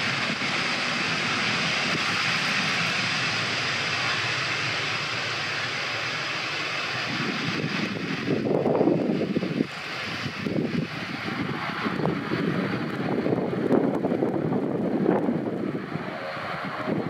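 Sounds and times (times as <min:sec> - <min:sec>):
low rumble: 0:00.0 - 0:17.0
turboprop engines running: 0:00.0 - 0:17.0.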